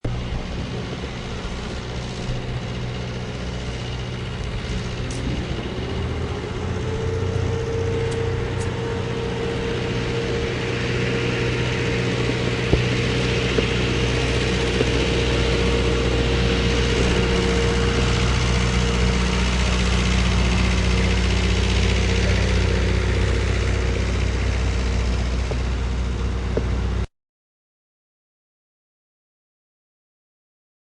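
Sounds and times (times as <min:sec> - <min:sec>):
construction machinery engine running: 0:00.0 - 0:27.1
rising machine whine: 0:00.1 - 0:27.1.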